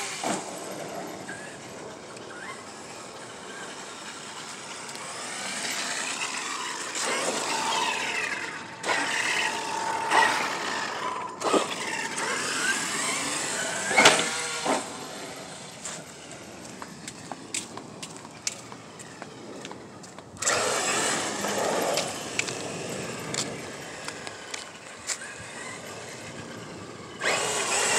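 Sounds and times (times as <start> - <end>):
electric motor whining: 0.0 - 17.2, 20.4 - 27.9.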